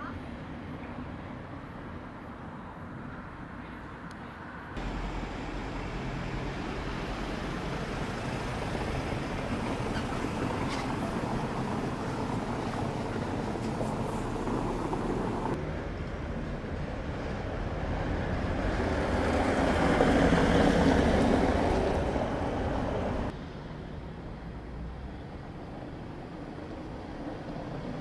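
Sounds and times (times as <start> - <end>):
car on cobblestones: 4.8 - 28.0.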